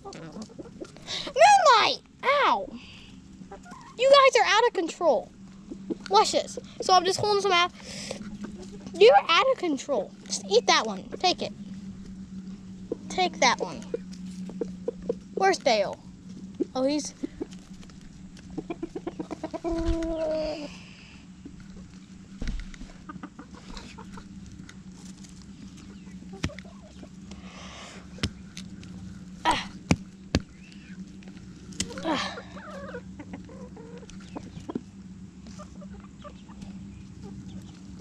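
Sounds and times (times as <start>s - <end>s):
hens clucking: 0.0s - 1.8s, 3.1s - 22.2s, 22.8s - 29.2s, 29.8s - 38.0s
low hum: 0.0s - 38.0s.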